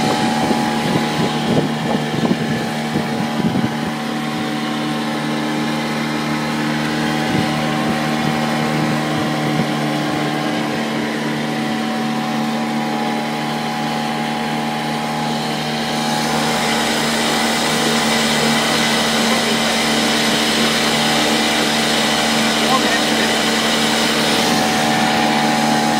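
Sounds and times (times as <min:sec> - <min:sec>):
small boat motor running: 0:00.0 - 0:25.9.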